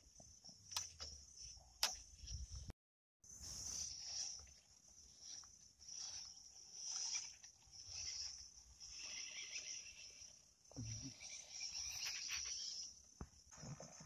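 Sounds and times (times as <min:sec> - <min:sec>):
insects chirping: 0:00.0 - 0:02.6, 0:03.3 - 0:14.0.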